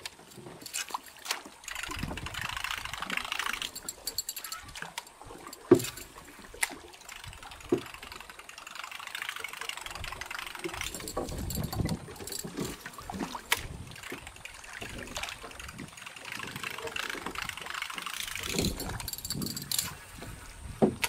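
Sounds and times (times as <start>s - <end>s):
fishing reel clicking: 0.6s - 20.2s.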